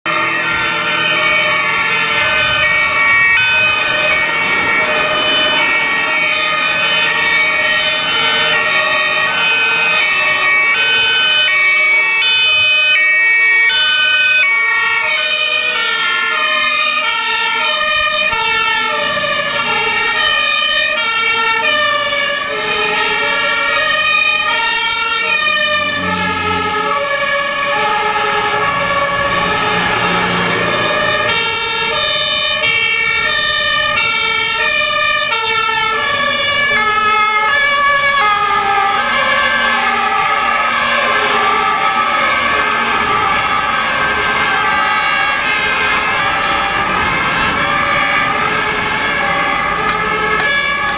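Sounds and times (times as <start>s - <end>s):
fire engine two-tone sirens: 0.0s - 50.9s.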